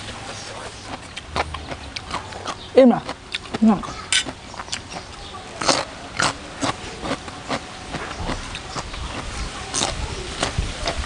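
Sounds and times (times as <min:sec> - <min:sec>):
chewing crisp cucumber: 0:00.0 - 0:11.0.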